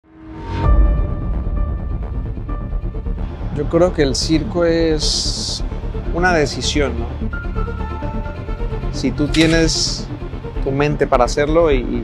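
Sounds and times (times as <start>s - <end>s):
background music with deep bass: 0.2s - 12.0s.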